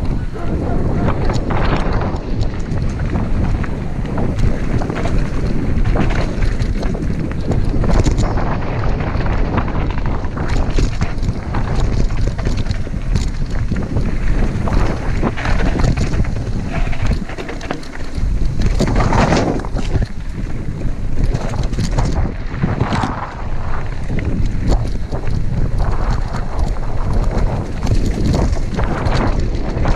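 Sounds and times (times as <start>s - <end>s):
bike clattering over bumps: 0.0s - 29.9s
wind buffeting microphone: 0.0s - 29.9s.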